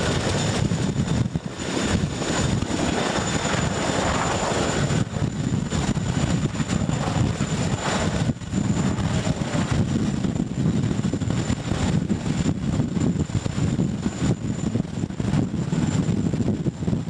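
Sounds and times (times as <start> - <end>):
helicopter rotor chop: 0.0 - 17.0
turbine noise: 0.0 - 17.0.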